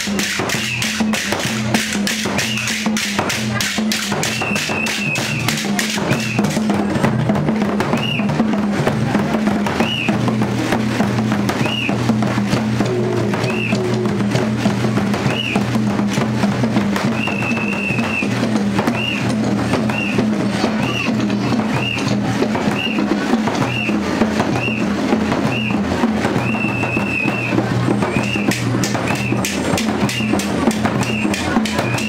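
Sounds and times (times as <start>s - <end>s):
fast hand drumming: 0.0s - 32.0s.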